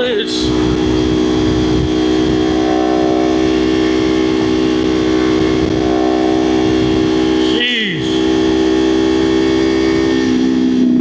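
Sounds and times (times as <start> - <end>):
low wind rumble: 0.0 - 11.0
motorcycle engine cruising: 0.0 - 11.0.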